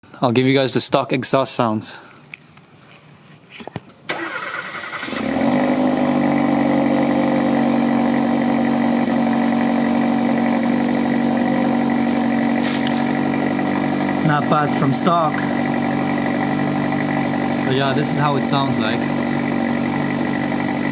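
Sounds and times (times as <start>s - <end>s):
car engine starting and idling: 4.1s - 20.9s.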